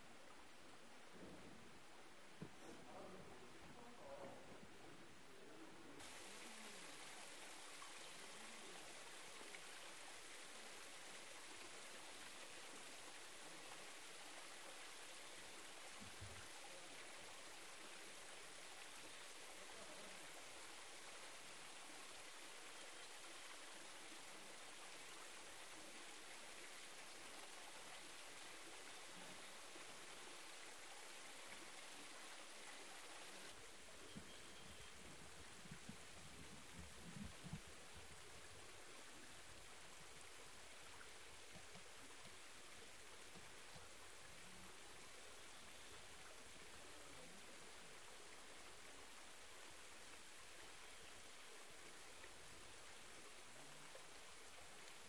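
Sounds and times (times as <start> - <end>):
stream trickling over rock: 6.0 - 55.0.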